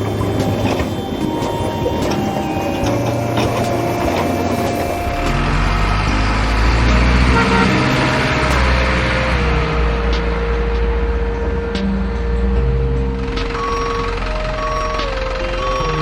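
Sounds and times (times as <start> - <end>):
steady tones stepping in pitch: 0.0 - 16.0
truck engine rumbling: 0.0 - 16.0.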